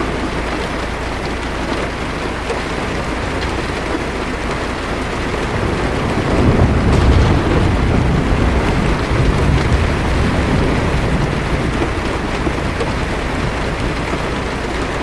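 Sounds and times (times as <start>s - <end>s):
heavy rain on car roof: 0.0s - 15.0s
low rumble of thunder: 2.7s - 15.0s.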